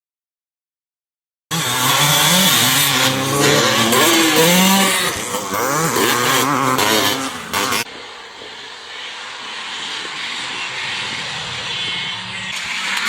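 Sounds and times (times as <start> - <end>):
motocross bikes revving: 1.5 - 13.0.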